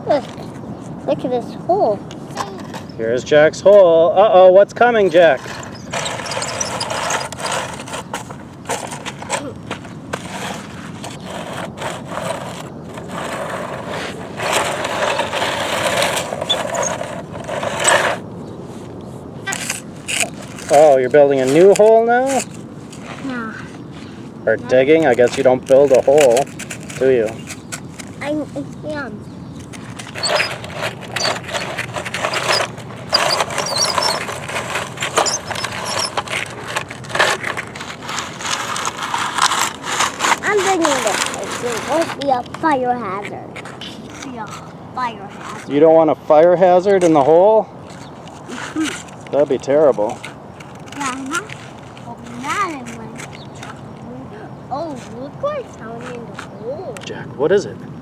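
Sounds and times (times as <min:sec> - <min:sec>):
toy vehicle scraping through sand: 0:02.4 - 0:56.9.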